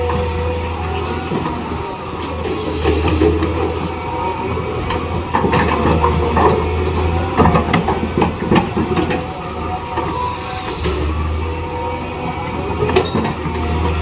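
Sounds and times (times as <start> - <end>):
small electric motors humming: 0.0 - 14.0.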